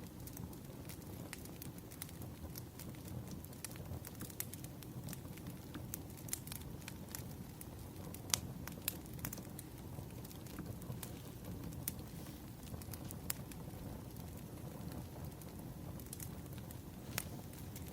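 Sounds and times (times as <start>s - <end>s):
firewood crackling and popping: 0.0s - 17.9s.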